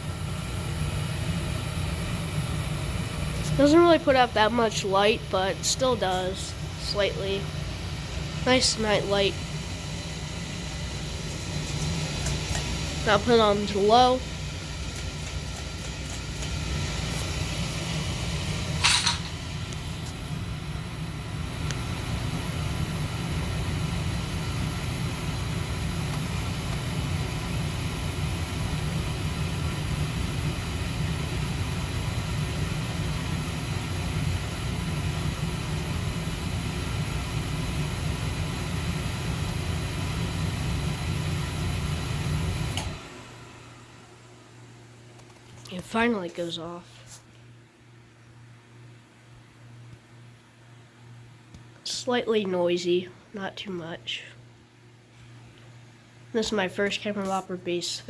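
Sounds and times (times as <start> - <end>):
appliance low hum: 0.0 - 58.0.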